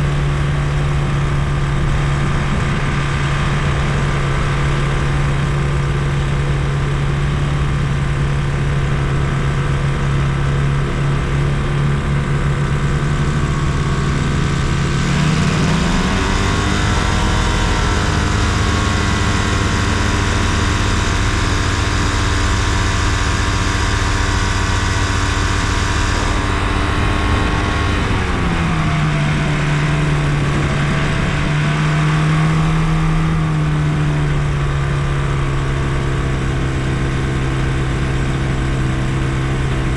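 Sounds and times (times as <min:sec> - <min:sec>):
ultralight aircraft engine running: 0:00.0 - 0:39.9.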